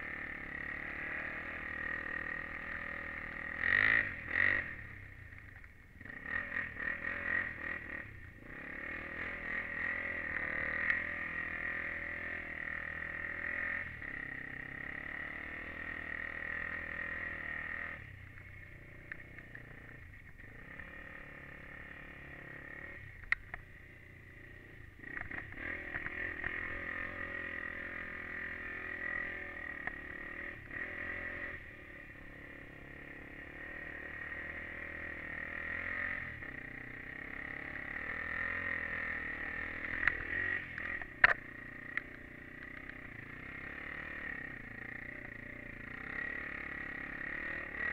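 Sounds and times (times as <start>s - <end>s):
quad bike engine revving: 0.0s - 47.9s.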